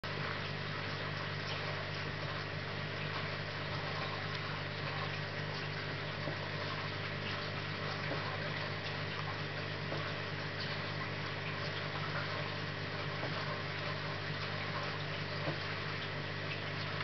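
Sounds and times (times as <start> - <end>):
aquarium filter low hum: 0.0 - 17.0.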